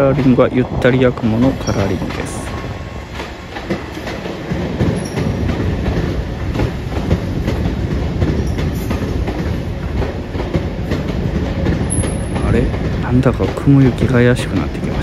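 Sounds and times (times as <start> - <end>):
train rumble: 0.0 - 15.0
train wheels clattering over rail joints: 0.0 - 15.0.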